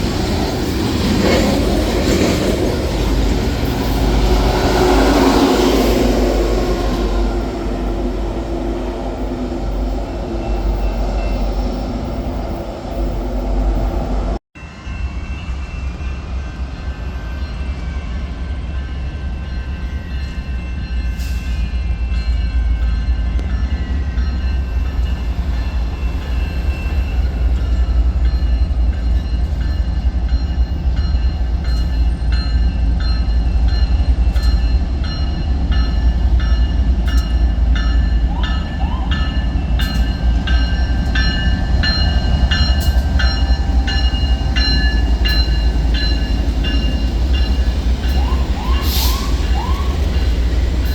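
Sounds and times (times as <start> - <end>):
train rumbling by: 0.0 - 50.9.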